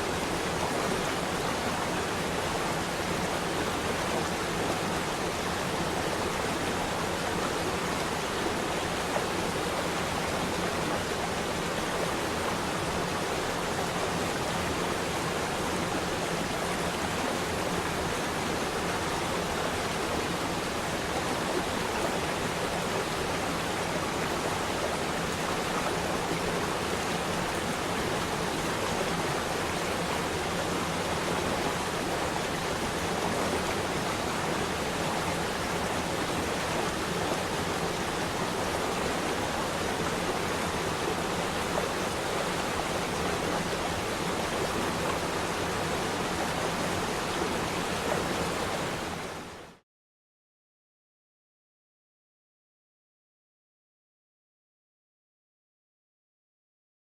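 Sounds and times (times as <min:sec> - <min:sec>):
water rushing: 0:00.0 - 0:49.8.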